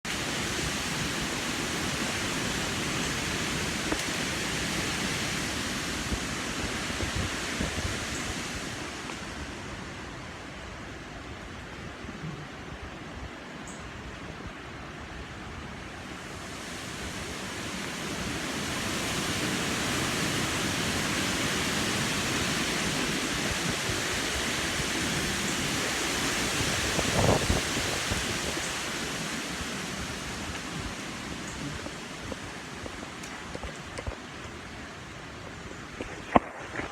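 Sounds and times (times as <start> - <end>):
strong wind gusting: 0.1 - 10.2, 16.2 - 36.9.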